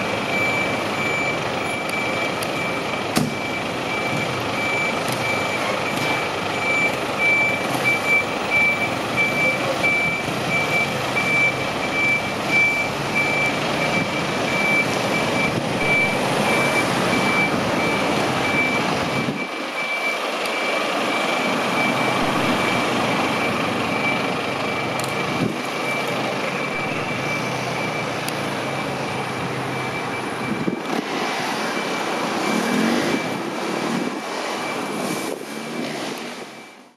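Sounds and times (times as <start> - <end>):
diesel engine running: 0.0 - 36.6
reversing alarm beeping: 0.0 - 36.9.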